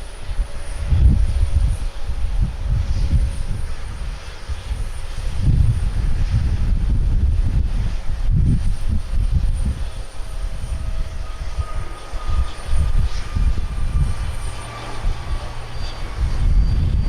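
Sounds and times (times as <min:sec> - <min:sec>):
jet engines whining: 0:00.0 - 0:17.0
wind rumble on microphone: 0:00.0 - 0:17.0.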